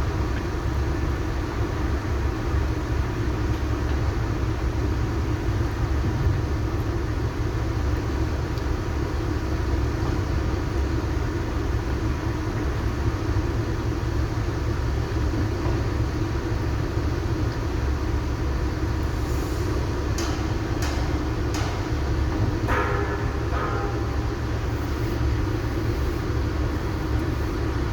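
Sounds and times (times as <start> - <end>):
heavy vehicle engine rumbling: 0.0 - 27.9.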